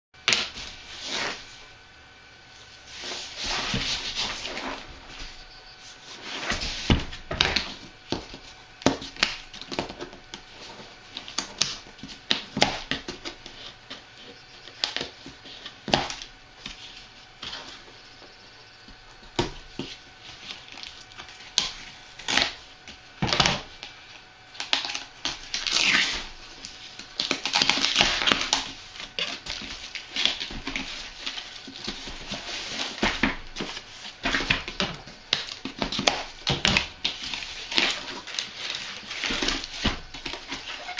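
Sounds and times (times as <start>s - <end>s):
cardboard scraping and rustling: 0.3s - 1.7s, 2.6s - 18.1s, 18.8s - 40.9s.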